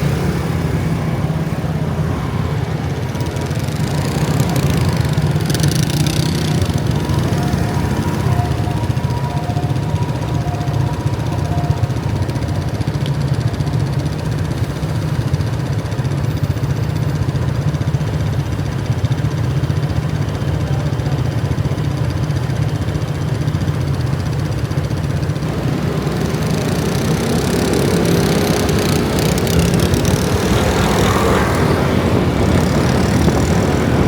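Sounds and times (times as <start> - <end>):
motor scooter engines in traffic: 0.0 - 34.0.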